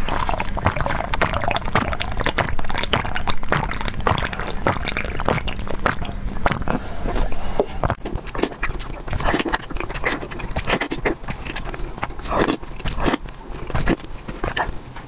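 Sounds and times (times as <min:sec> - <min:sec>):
person gulping and swallowing: 0:00.0 - 0:06.8, 0:07.8 - 0:15.0.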